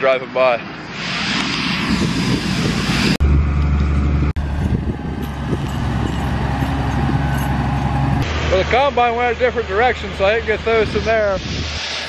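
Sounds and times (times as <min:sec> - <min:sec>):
rushing windy noise: 0:00.6 - 0:12.0
combine harvester working: 0:00.7 - 0:12.0
tractor diesel drone: 0:00.9 - 0:12.0.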